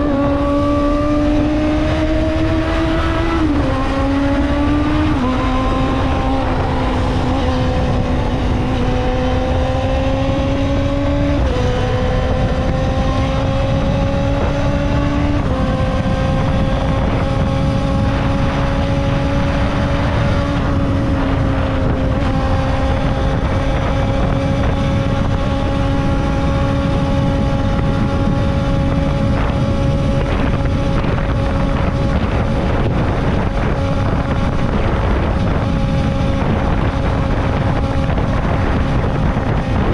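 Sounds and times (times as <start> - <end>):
motorcycle engine at high revs: 0.0 - 39.9
wind rumble on microphone: 0.0 - 39.9.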